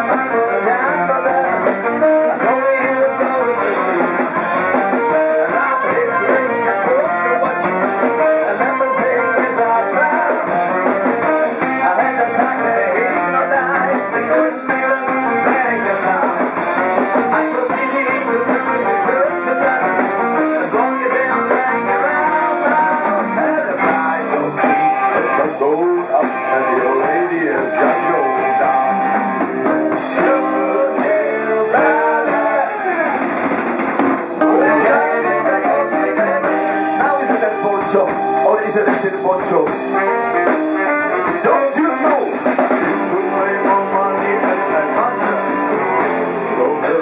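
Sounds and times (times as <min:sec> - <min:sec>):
drum kit: 0:00.0 - 0:47.0
electric bass: 0:00.0 - 0:47.0
electric guitars: 0:00.0 - 0:47.0.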